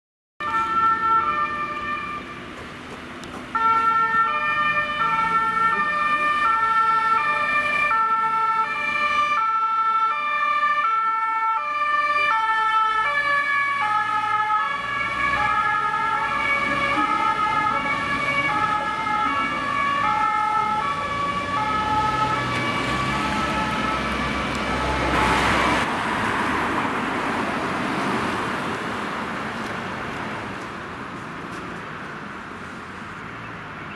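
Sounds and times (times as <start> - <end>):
fire engine two-tone sirens: 0.4 - 28.4
vehicle passing: 0.8 - 9.4, 12.4 - 33.9.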